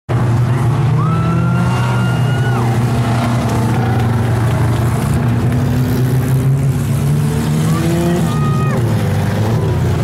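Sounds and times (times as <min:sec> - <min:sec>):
race car engines droning: 0:00.1 - 0:10.0.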